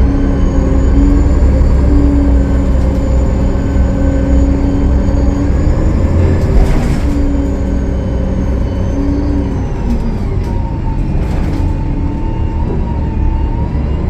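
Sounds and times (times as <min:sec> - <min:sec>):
diesel bus engine rumble: 0:00.0 - 0:14.0
drivetrain whine: 0:00.0 - 0:14.0.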